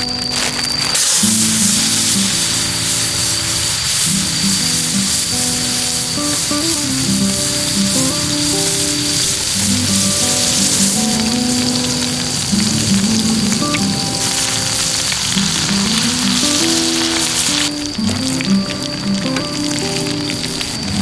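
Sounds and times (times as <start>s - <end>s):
meat sizzling over a fire: 0.0s - 21.0s
music with plucked notes: 1.2s - 21.0s.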